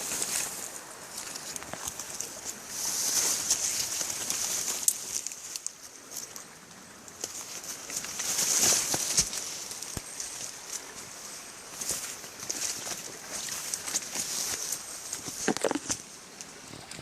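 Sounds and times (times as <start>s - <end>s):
footsteps on forest trail: 0.0s - 6.4s, 7.1s - 16.1s
rustling: 0.0s - 17.0s
steady outdoor hiss: 0.0s - 17.0s.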